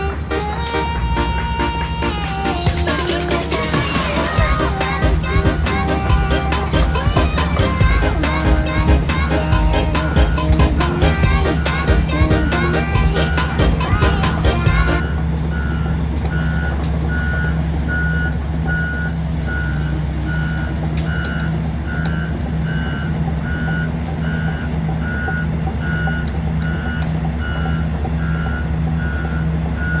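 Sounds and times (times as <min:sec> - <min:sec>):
diesel engine droning: 0:00.0 - 0:30.0
excavator travel alarm beeping: 0:00.0 - 0:30.0.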